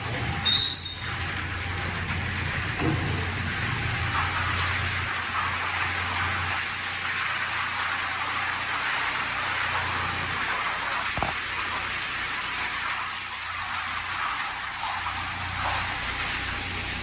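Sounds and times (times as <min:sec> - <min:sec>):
low machine hum: 0:00.0 - 0:17.0
water spraying over car: 0:00.0 - 0:17.0.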